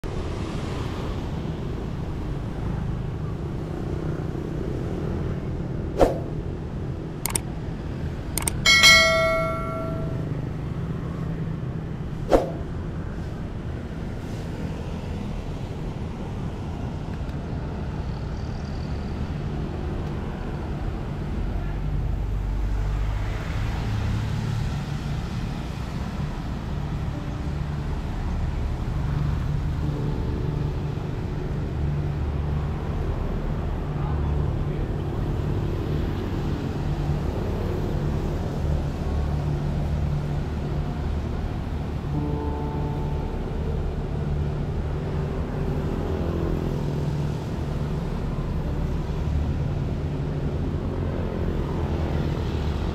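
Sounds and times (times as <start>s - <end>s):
street traffic rumble: 0.0s - 52.9s.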